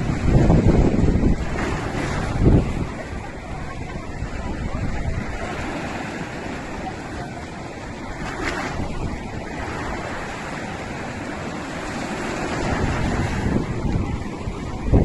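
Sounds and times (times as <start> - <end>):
ocean waves surging: 0.0 - 15.0
wind buffeting microphone: 0.0 - 15.0.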